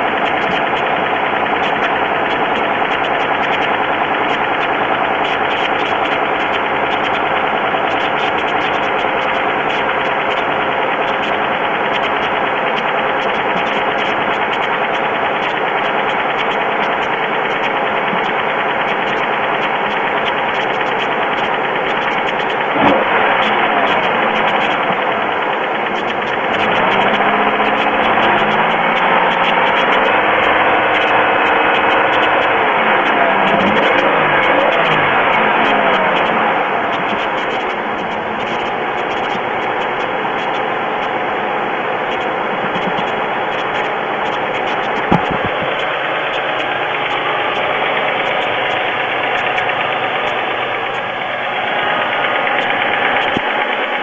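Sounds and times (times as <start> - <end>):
car engine with ticking knock: 0.0 - 54.0.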